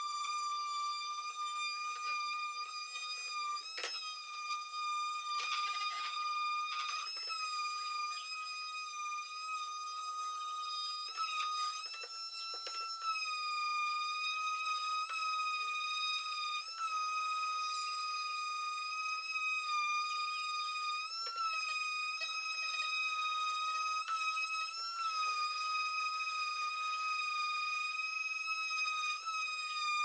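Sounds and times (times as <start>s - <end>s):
electric sander whine: 0.0s - 30.0s.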